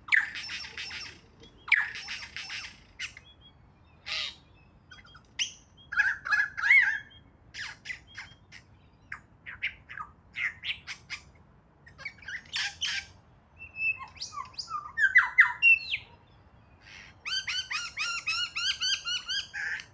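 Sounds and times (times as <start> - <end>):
lyrebird song: 0.0 - 19.9.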